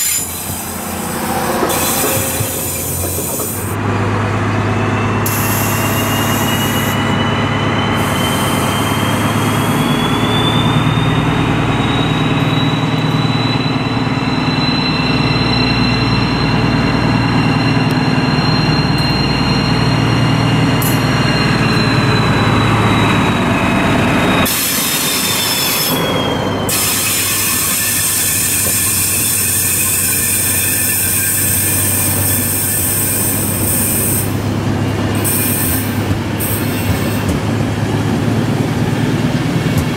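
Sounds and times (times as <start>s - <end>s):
high squeal: 0.0s - 3.8s, 4.7s - 34.6s, 35.2s - 37.3s
diesel locomotive engine hum: 0.0s - 39.9s.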